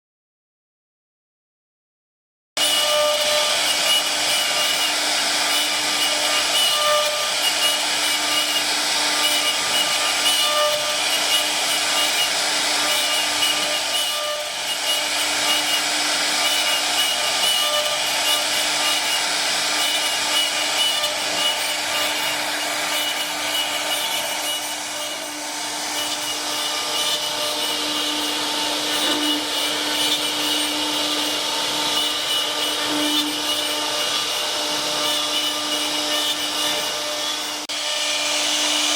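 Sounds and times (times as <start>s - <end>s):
rough cutting noise: 2.6s - 38.9s.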